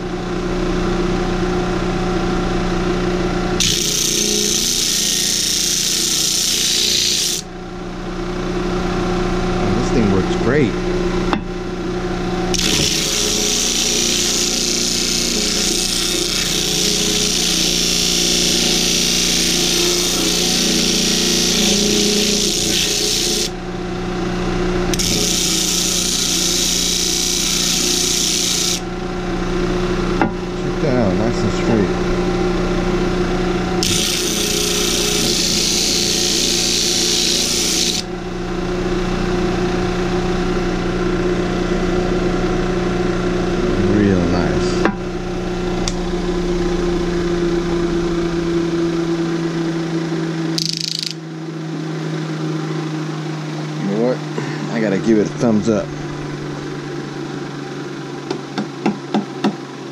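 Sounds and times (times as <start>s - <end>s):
disc sander motor hum: 3.2s - 7.6s, 8.5s - 58.7s.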